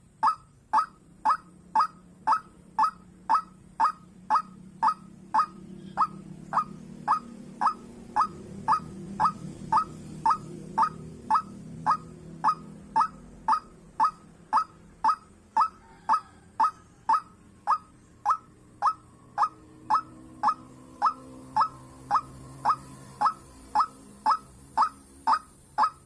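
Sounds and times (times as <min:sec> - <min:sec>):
low steady hum: 0:00.0 - 0:26.0
waterhen calling: 0:00.0 - 0:26.0.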